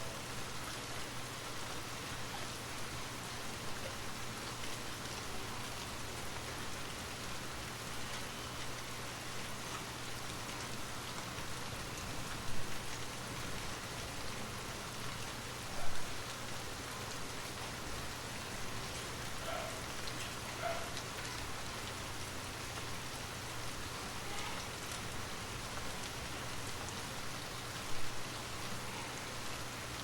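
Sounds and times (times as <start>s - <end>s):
rain pattering on a surface: 0.0s - 30.0s.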